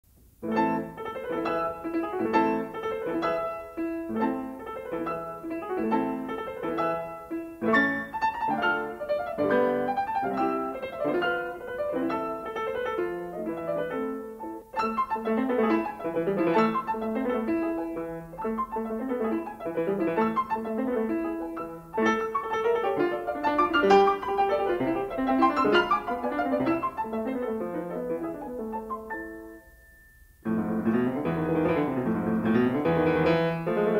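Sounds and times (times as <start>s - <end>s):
fast piano music: 0.4s - 33.9s.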